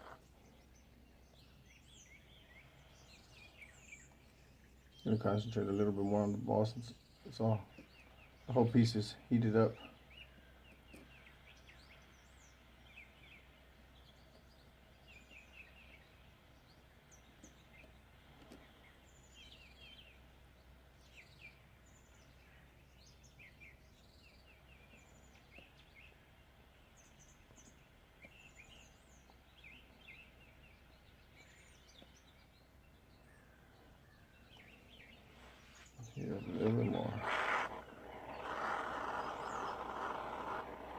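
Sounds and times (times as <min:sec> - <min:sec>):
faint bird chirps: 0:00.0 - 0:40.9.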